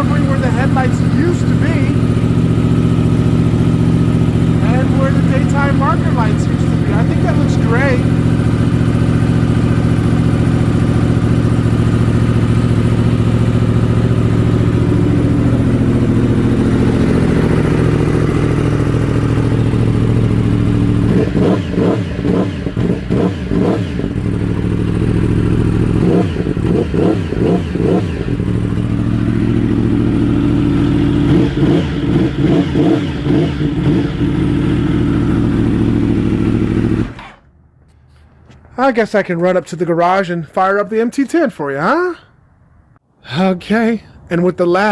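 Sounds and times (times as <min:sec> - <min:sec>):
motorcycle engine idling and revving: 0:00.0 - 0:38.6.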